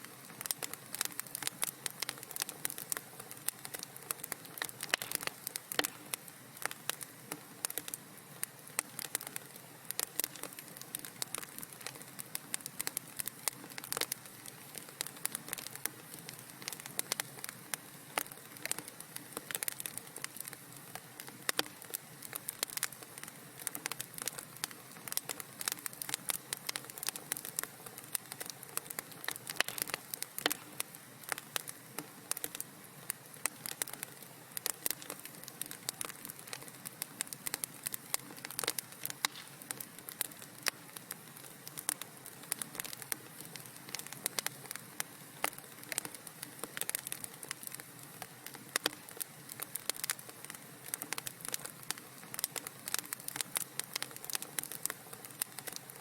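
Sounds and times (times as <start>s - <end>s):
soft steady hiss: 0.0s - 56.0s
wood fire crackling: 0.0s - 56.0s.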